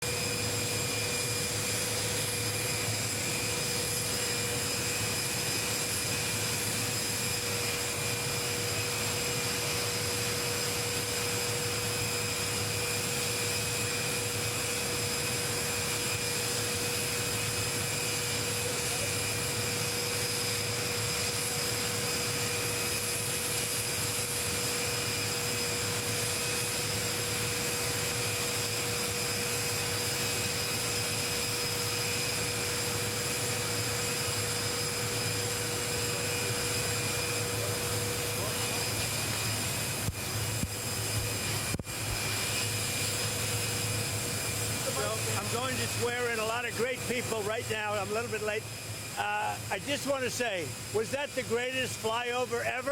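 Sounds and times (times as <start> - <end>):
jet aircraft idling: 0.0 - 52.9.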